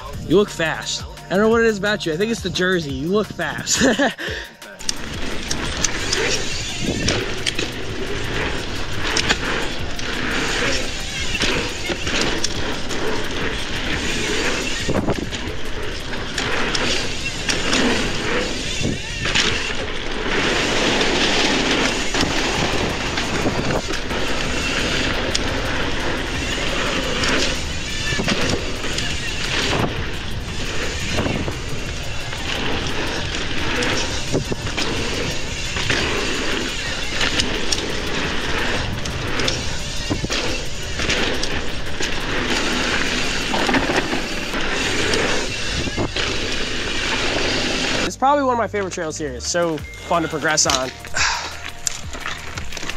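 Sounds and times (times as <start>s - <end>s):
mountain bike rolling on trail: 0.0s - 52.9s
small clicks and rattles: 4.8s - 48.1s, 50.4s - 52.9s
tyres rushing over dirt: 4.9s - 48.7s
wind buffeting microphone: 5.0s - 47.6s.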